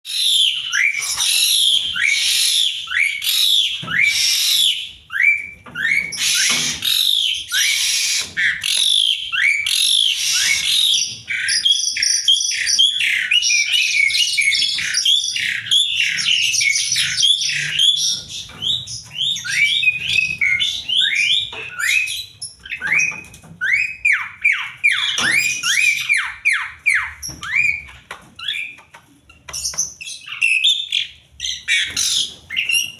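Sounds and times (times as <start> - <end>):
starling singing: 0.1 - 28.8.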